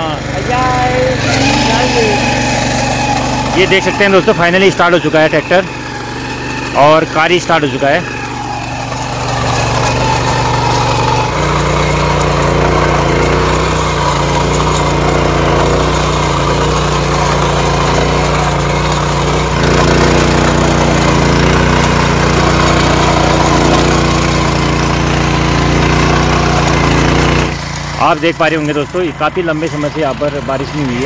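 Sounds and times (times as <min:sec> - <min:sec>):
small engine running under load: 0:00.0 - 0:31.0
tines churning dry soil: 0:00.0 - 0:31.0.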